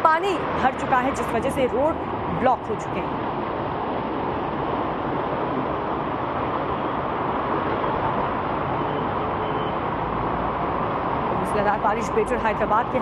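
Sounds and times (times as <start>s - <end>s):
water rushing along a road: 0.0s - 13.0s.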